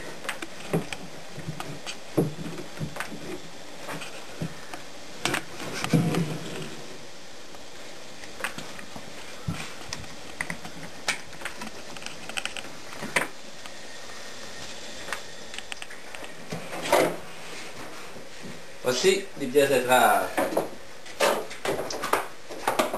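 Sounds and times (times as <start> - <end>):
gas stove burner hiss: 0.0 - 22.5.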